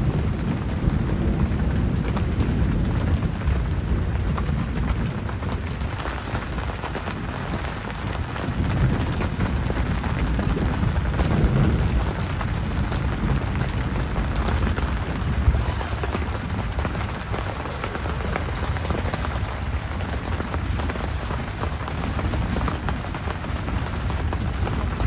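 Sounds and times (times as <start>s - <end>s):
heavy rain on a surface: 0.0s - 25.0s.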